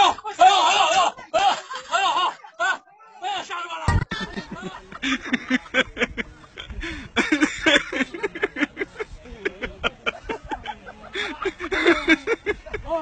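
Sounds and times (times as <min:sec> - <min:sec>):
people talking and calling out: 0:00.0 - 0:13.0.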